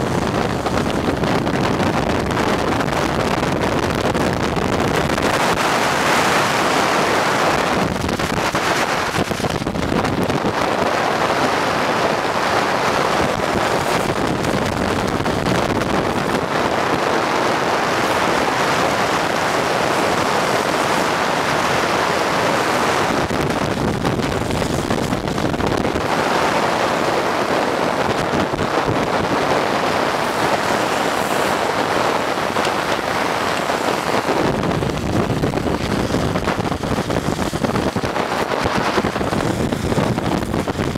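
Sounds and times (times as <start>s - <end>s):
wheels rolling on asphalt: 0.0s - 40.9s
wind rushing over microphone: 0.0s - 40.9s.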